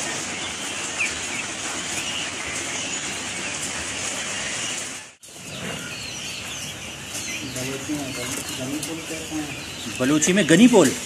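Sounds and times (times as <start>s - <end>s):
bird calls: 0.0s - 11.0s
chicks peeping: 0.0s - 11.0s.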